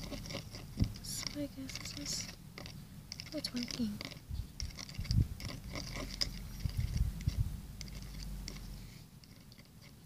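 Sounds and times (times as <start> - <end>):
toothpick scraping plastic container: 0.0 - 10.0.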